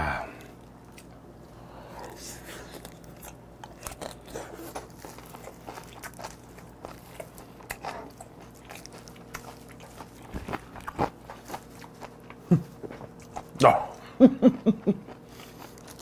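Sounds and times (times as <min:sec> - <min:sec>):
wet chewing mouth sounds: 0:02.0 - 0:16.0.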